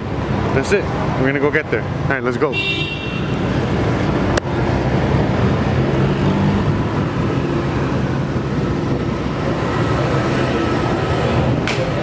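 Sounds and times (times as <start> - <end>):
vehicle engines running: 0.0 - 12.0.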